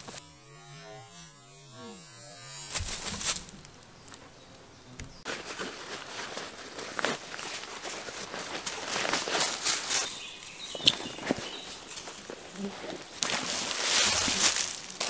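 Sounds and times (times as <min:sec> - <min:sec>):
rustling and handling noise: 0:02.6 - 0:15.0.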